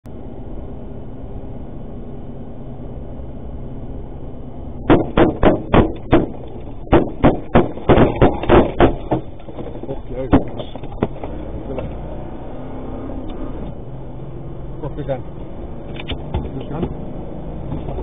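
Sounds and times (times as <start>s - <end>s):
low rumble: 0.1s - 18.0s.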